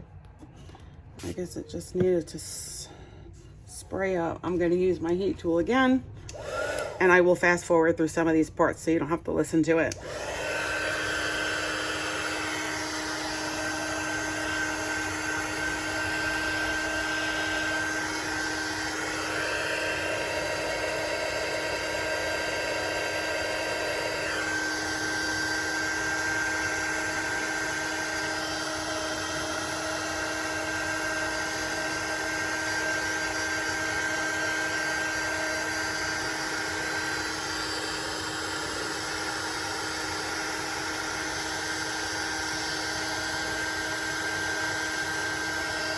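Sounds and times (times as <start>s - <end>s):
heat tool fan whining: 3.9s - 7.6s, 9.8s - 45.9s.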